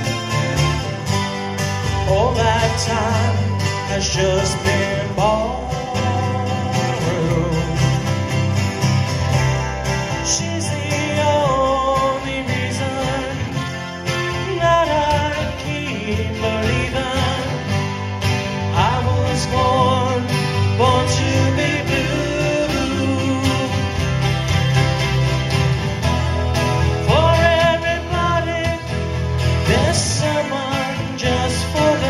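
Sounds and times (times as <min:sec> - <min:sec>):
acoustic guitars playing: 0:00.0 - 0:32.0.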